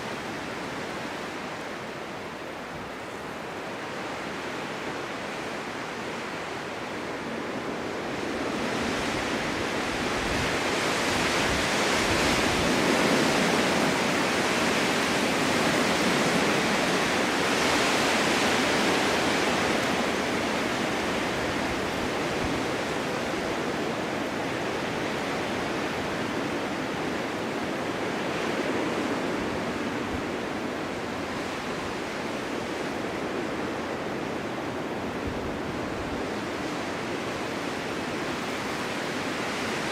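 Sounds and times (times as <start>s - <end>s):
strong wind gusts: 0.0s - 39.9s.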